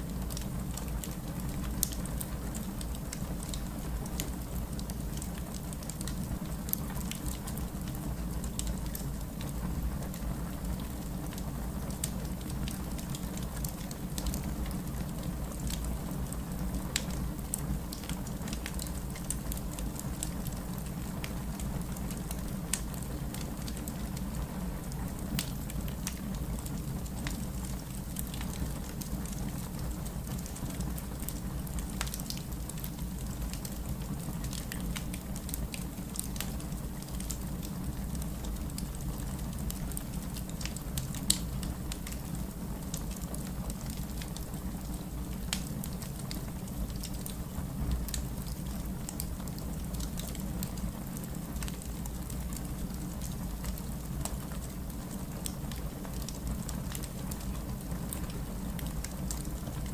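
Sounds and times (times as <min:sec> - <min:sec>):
fire crackling and popping: 0:00.0 - 0:59.9
flames rumbling: 0:00.1 - 0:59.9.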